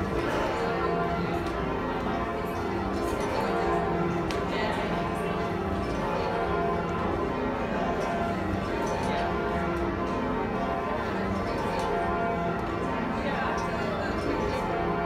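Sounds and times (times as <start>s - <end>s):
church bells ringing in rounds: 0.0s - 15.0s.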